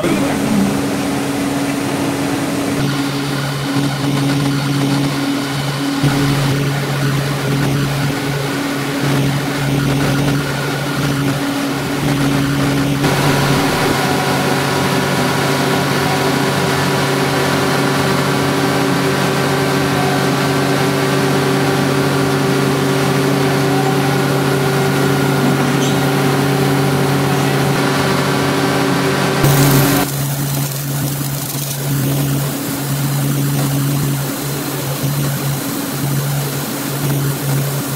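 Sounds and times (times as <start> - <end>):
low droning tone: 0.0 - 31.2
mill machinery hum and clatter: 0.0 - 37.9.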